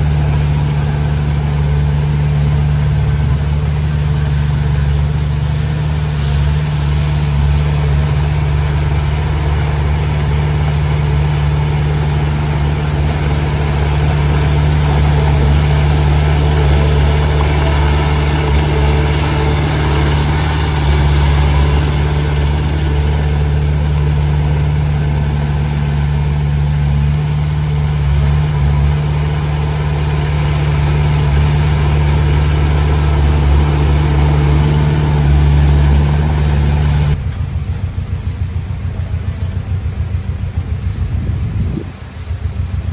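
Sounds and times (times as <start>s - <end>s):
bulldozer diesel engine drone: 0.0s - 42.9s.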